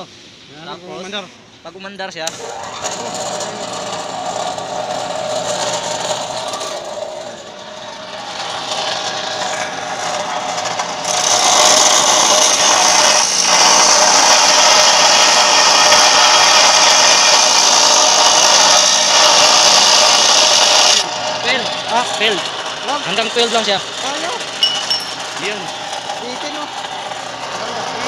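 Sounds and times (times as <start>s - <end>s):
electric motor spinning saw disc: 2.3s - 28.0s
saw disc grinding metal pipe: 2.3s - 28.0s.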